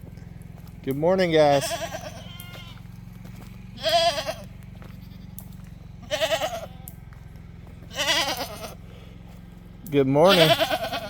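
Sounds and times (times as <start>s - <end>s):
low hum: 0.0s - 10.2s
goats bleating: 0.6s - 11.0s.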